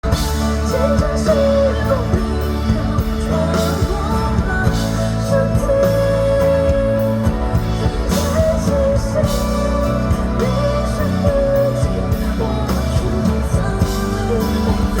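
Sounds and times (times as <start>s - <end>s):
bass guitar: 0.0s - 15.0s
drums: 0.0s - 15.0s
electric guitar: 0.0s - 15.0s
person singing: 0.0s - 15.0s.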